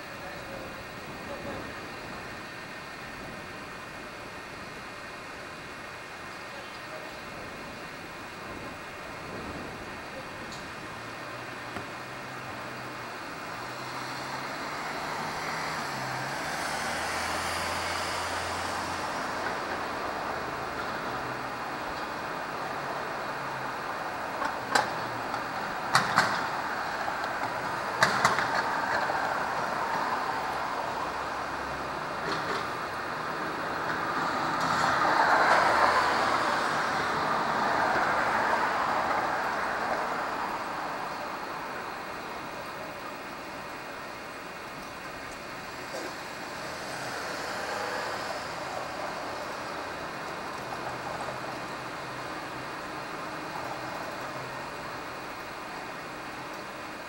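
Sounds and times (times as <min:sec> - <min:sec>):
cars driving along street: 0:00.0 - 0:57.0
vehicle passing on road: 0:07.0 - 0:57.0.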